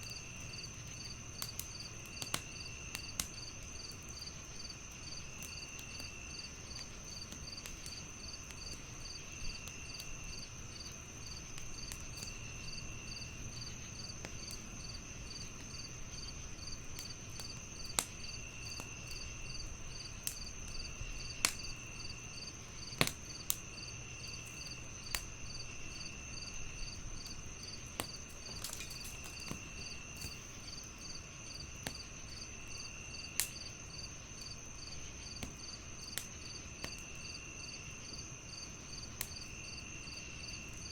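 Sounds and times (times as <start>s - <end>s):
fire pops: 0.0s - 37.2s
crickets chirping: 0.0s - 40.9s
wood fire crackling: 0.0s - 40.9s.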